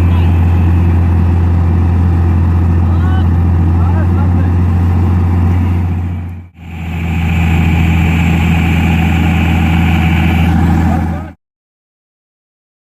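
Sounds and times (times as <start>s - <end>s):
excavator diesel engine running: 0.0s - 11.4s.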